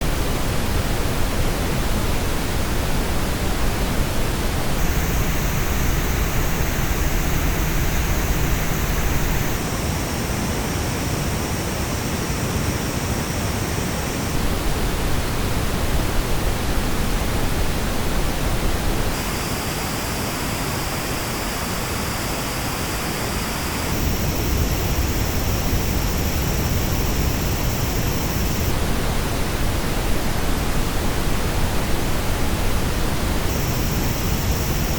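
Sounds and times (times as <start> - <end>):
pink noise test signal: 0.0 - 34.9.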